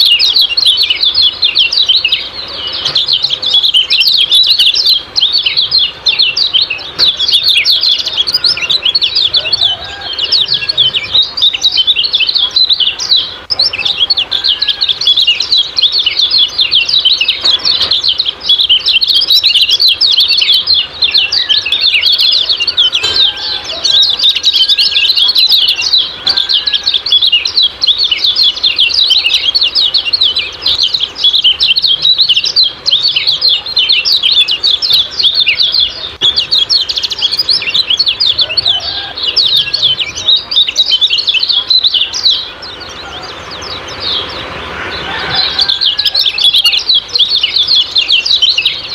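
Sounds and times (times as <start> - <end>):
birds chirping rapidly: 0.0 - 48.9
lower whistled bird notes: 0.0 - 48.9.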